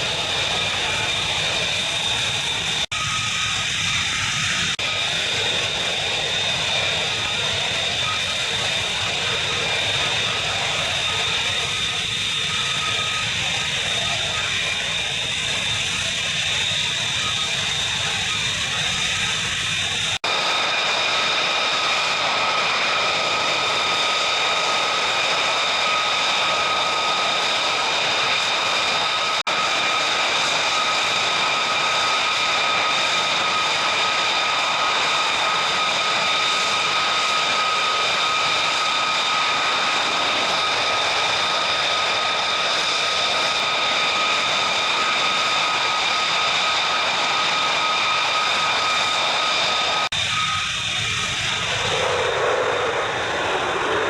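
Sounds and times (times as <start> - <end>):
jet engine whine and rush: 0.0 - 54.0.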